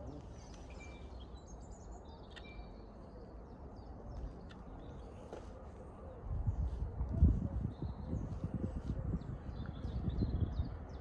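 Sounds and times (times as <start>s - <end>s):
small birds chirping faintly: 0.0s - 11.0s.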